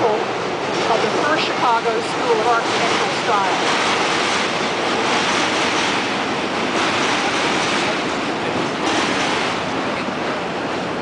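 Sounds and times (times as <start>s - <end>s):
elevated train on steel bridge: 0.0s - 11.0s.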